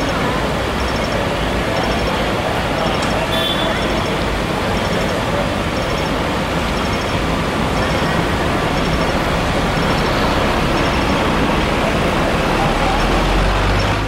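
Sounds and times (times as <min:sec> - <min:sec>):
fire engines rumbling: 0:00.0 - 0:14.0.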